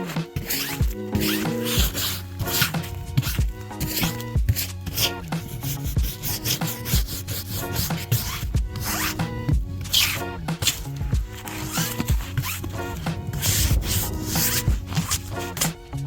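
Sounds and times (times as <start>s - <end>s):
music with steady beat: 0.0s - 16.0s
rhythmic rasping: 0.0s - 16.0s.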